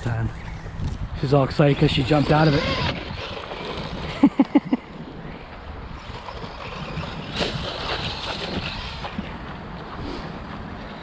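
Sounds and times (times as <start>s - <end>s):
rc car motor and tyres: 1.5s - 11.0s.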